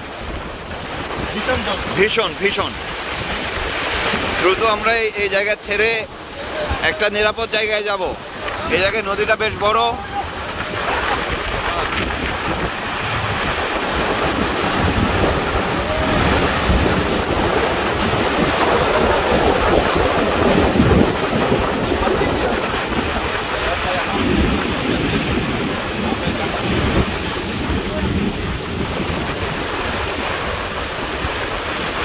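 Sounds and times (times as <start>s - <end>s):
heavy rain pouring: 0.0s - 32.0s
wind gusting on microphone: 0.0s - 32.0s.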